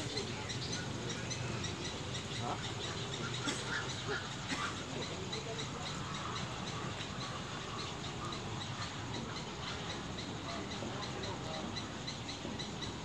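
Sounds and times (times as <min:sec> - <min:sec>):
bird chirping: 0:00.0 - 0:13.0
scattered bird calls: 0:00.0 - 0:13.0.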